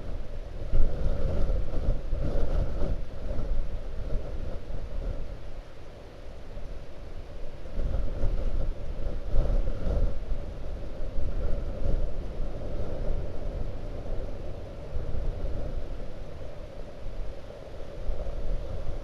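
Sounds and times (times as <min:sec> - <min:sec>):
wind gusting against microphone: 0:00.0 - 0:19.0.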